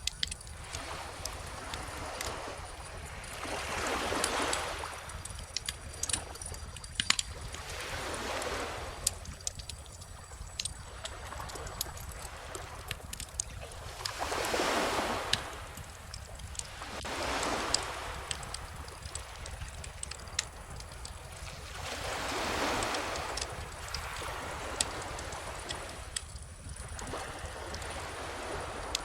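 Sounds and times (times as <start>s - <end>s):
bonfire crackling and popping: 0.0s - 29.0s
ocean waves washing in: 0.0s - 29.0s.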